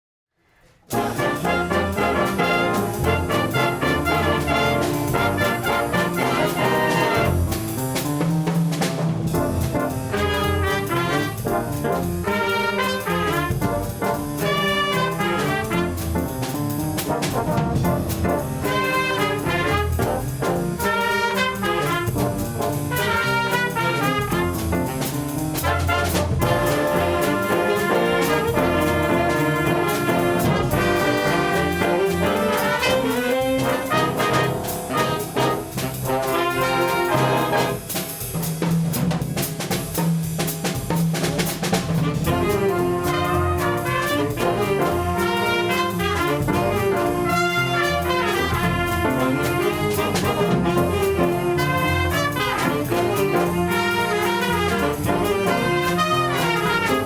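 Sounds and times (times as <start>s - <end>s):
brass ensemble with drums: 0.7s - 57.0s.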